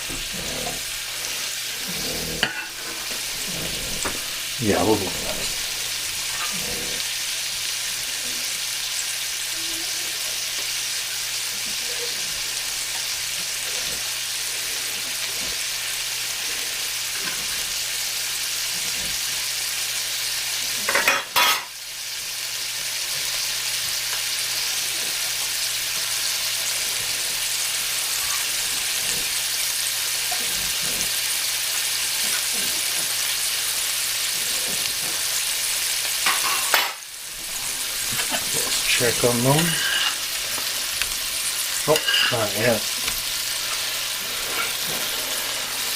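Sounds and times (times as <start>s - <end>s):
burger patties sizzling in a pan: 0.0s - 45.9s.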